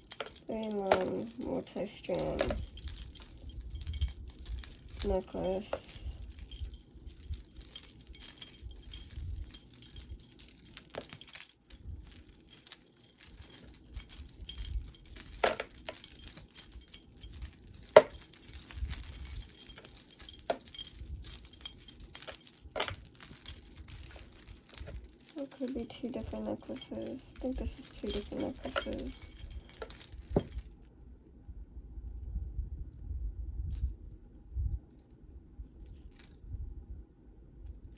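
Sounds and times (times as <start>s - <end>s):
necklace beads and chain clinking: 0.0s - 30.9s, 33.6s - 34.1s, 35.8s - 36.4s.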